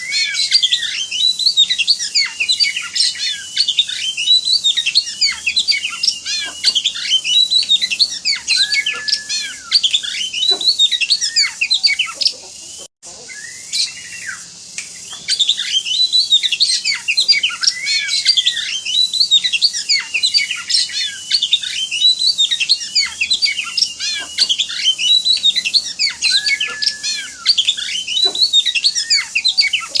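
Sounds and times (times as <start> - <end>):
songbird singing rapid chirps: 0.0 - 30.0.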